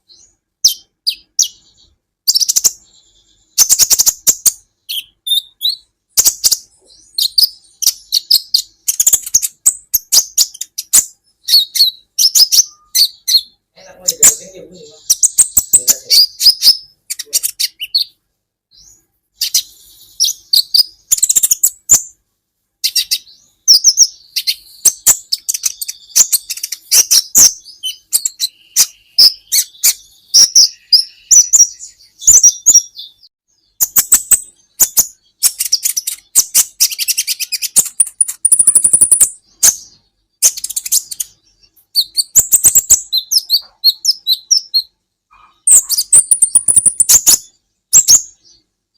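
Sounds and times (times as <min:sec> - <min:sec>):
bird twittering song: 0:00.0 - 0:22.2, 0:22.8 - 0:48.9.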